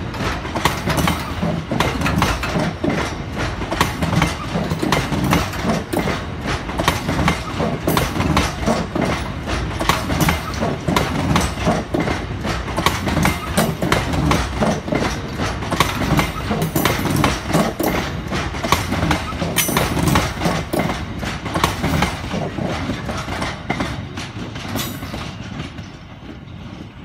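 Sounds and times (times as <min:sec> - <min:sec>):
steady train rumble: 0:00.0 - 0:27.0
train wheels clicking over track: 0:00.0 - 0:27.0.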